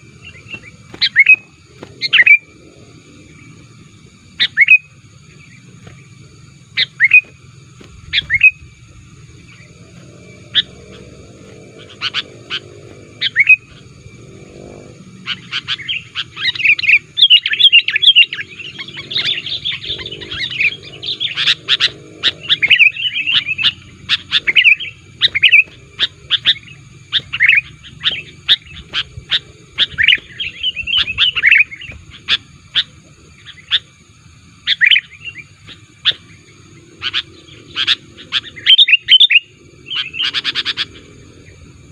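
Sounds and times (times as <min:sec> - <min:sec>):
bulbul chirping and chattering: 0:00.0 - 0:41.6.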